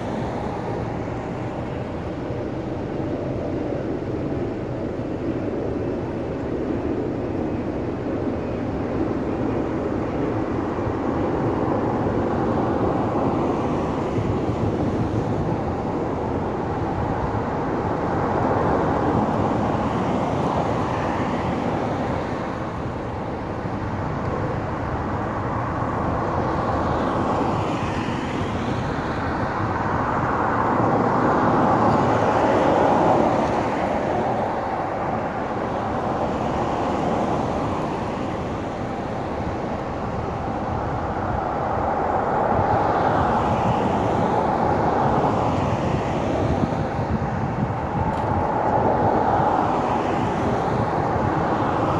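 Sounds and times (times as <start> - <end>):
car traffic on wet road: 0.0 - 51.9.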